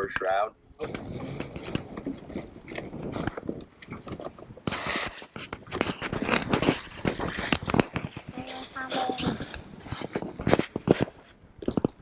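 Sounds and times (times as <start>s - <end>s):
rustling: 0.7s - 12.0s.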